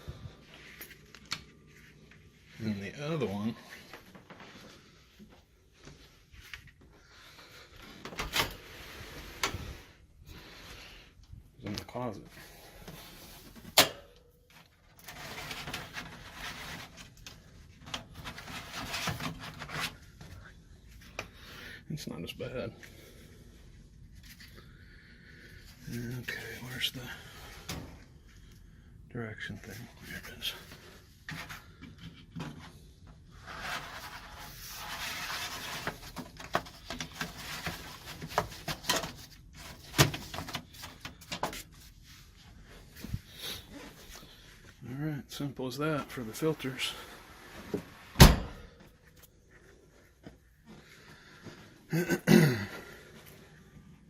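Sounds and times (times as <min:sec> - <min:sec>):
air filter rustling and scraping: 0:00.0 - 0:13.8, 0:14.4 - 0:28.5, 0:29.4 - 0:44.8, 0:45.8 - 0:51.8.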